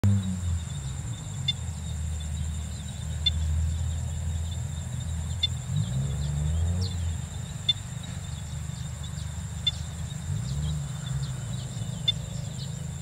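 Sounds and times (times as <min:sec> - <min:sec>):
insects buzzing: 0:00.0 - 0:13.0
short insect chirps: 0:00.1 - 0:13.0.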